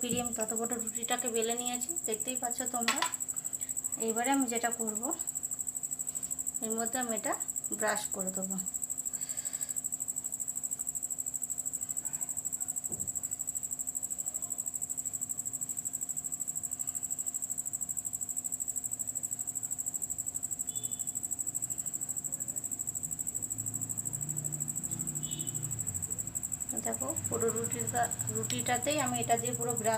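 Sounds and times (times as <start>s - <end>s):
cricket chirping: 0.0s - 29.9s
faint low hum: 0.0s - 29.9s.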